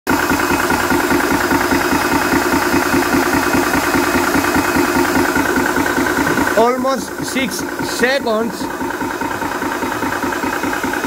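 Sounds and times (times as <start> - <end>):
air compressor pumping: 0.1 - 11.0.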